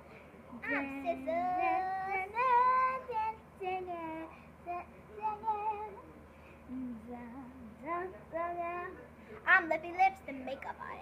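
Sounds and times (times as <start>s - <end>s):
girl singing: 0.6s - 6.0s, 6.7s - 10.6s.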